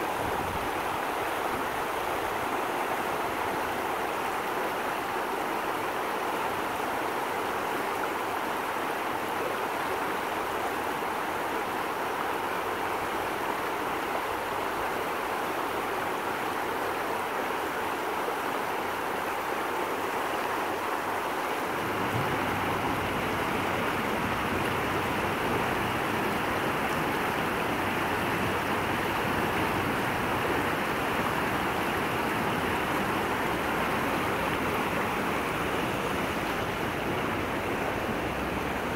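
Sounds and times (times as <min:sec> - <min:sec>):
water running over rocks: 0:00.0 - 0:38.9.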